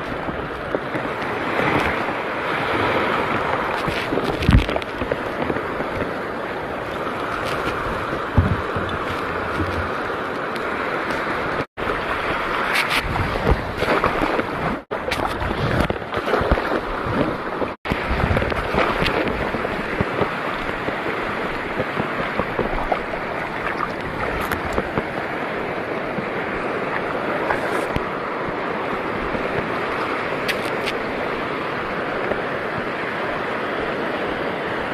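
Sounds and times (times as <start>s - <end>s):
sea water washing: 0.0s - 34.9s
wind on microphone: 0.0s - 34.9s.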